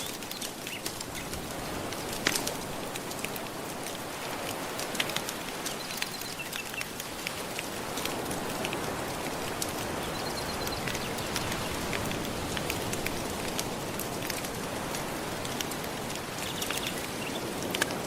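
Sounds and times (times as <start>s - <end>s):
ocean waves on shore: 0.0s - 18.0s
wood fire crackling: 0.0s - 18.0s.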